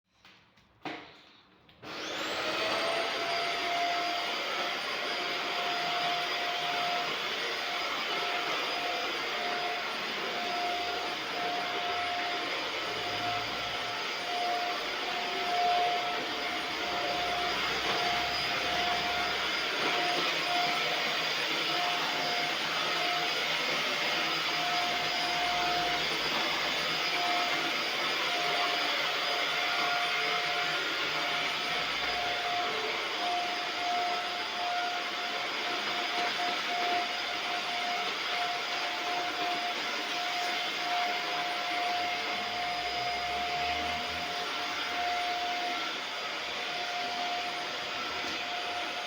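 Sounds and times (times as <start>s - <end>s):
vacuum cleaner running: 1.8s - 49.0s.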